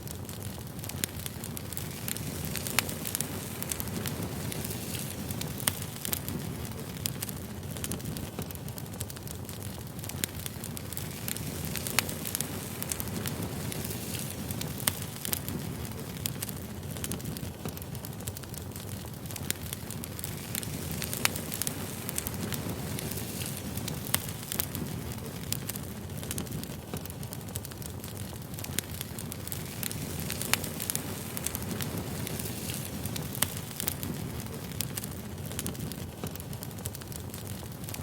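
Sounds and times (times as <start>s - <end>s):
firewood crackling with pops: 0.0s - 38.0s.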